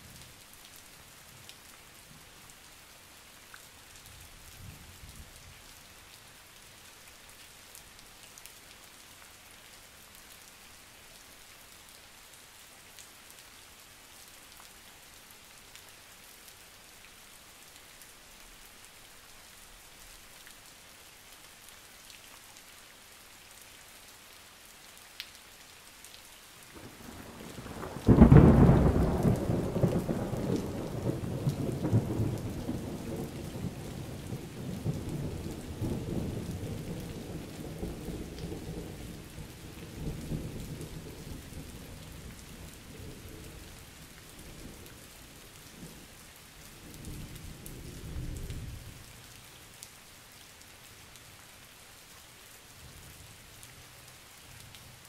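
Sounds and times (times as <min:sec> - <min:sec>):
steady light rain: 0:00.0 - 0:55.0.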